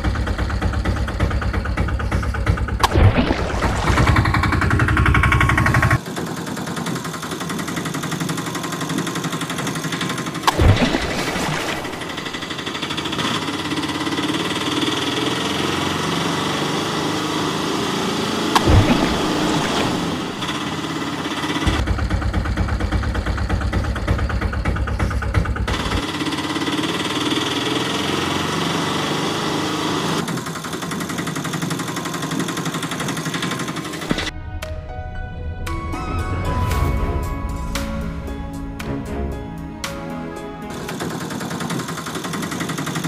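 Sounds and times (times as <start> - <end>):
auto-rickshaw engine running: 0.0 - 10.6, 11.6 - 34.3, 40.2 - 43.0.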